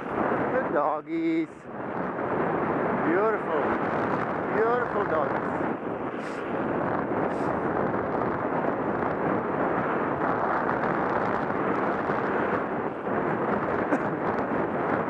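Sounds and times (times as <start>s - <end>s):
wind on microphone: 0.0s - 15.0s
bicycle tyres rushing on snow: 1.8s - 15.0s.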